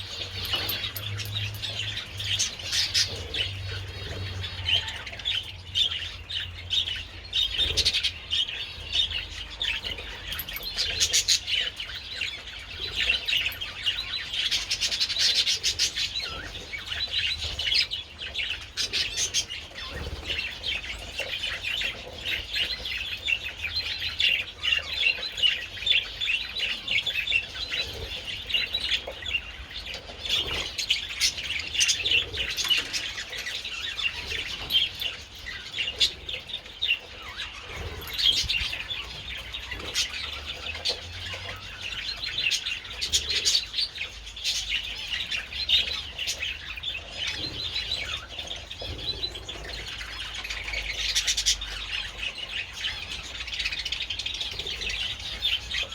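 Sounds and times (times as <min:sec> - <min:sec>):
budgerigars chattering and chirping: 0:00.0 - 0:55.9.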